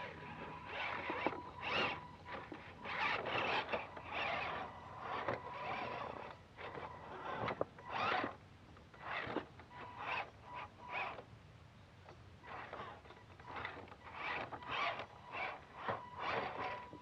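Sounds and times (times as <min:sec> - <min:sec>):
electric motors whirring: 0:00.0 - 0:11.3, 0:12.4 - 0:17.0.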